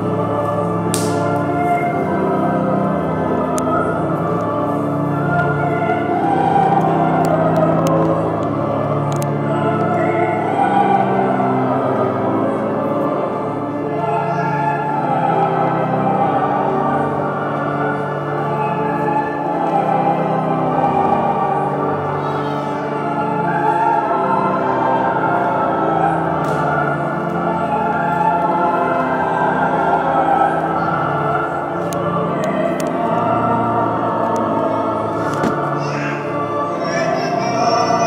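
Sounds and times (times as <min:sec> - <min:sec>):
slow choral singing: 0:00.0 - 0:38.0.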